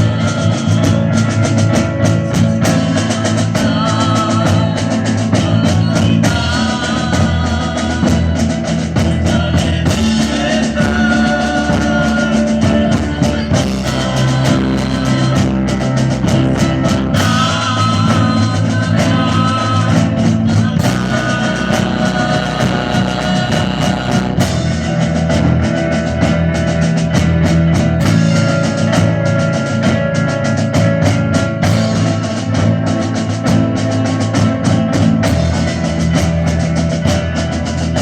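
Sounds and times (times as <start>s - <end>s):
drum kit beat: 0.0s - 38.0s
loud rock music: 0.0s - 38.0s.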